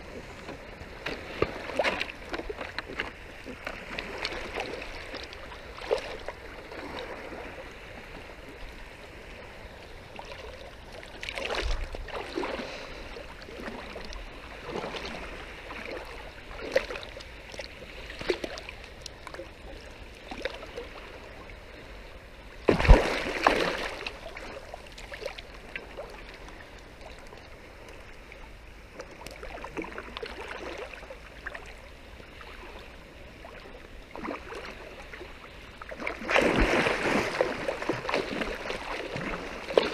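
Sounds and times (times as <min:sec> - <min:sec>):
seawater sloshing and splashing: 0:00.0 - 0:21.9, 0:22.5 - 0:28.1, 0:28.9 - 0:39.9.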